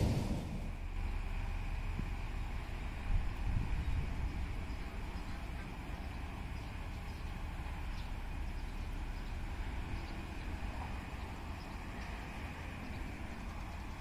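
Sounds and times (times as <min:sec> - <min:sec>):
distant diesel locomotive rumble: 0:00.0 - 0:14.0.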